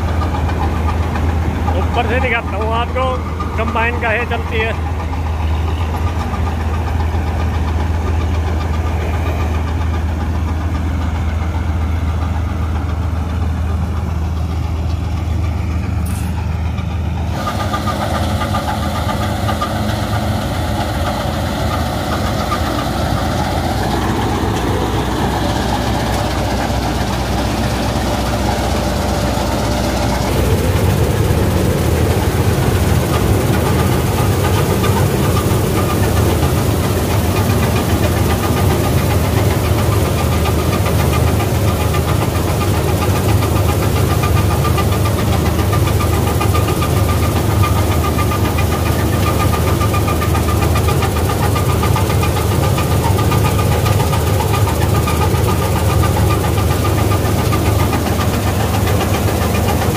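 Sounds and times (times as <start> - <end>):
combine harvester engine hum: 0.0 - 59.9
machinery noise: 0.0 - 59.9.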